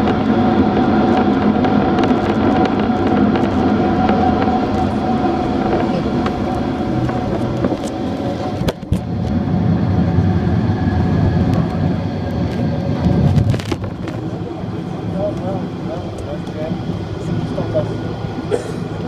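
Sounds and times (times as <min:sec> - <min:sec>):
airliner engine hum: 0:00.0 - 0:19.0.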